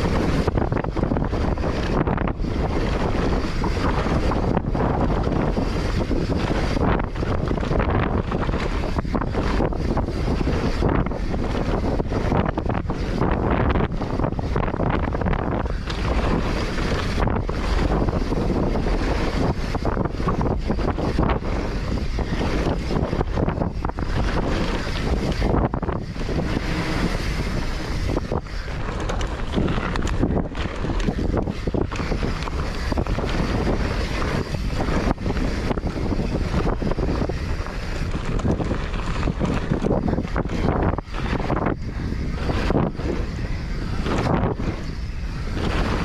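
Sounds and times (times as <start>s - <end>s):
bike knocks and rattles: 0.0s - 44.7s
bike tyre noise: 0.0s - 46.0s
wind rushing over microphone: 0.0s - 46.0s.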